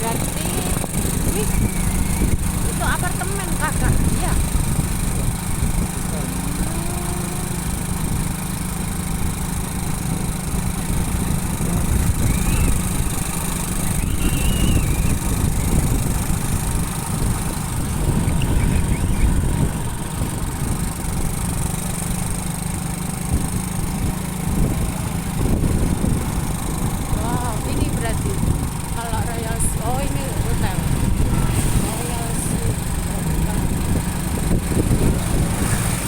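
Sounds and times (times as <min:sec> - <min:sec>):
motorcycle engine humming: 0:00.0 - 0:36.0.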